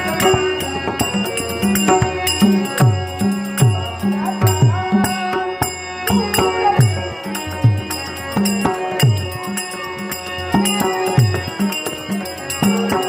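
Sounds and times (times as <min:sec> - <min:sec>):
harmonium holding notes: 0:00.0 - 0:13.0.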